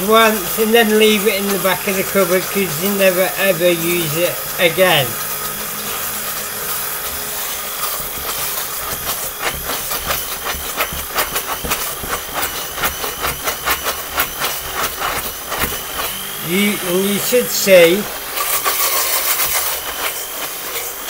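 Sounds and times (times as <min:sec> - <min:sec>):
hand blender whirring: 0:00.0 - 0:21.0.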